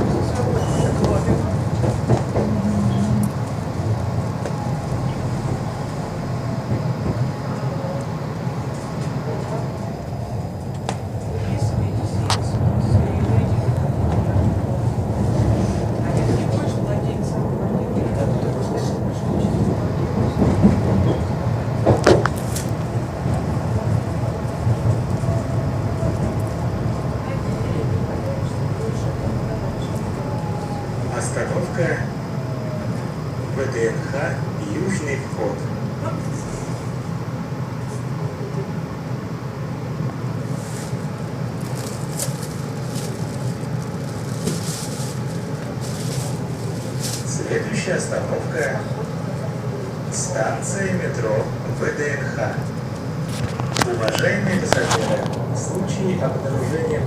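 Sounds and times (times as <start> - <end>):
tram wheels rumbling on rails: 0.0 - 57.0.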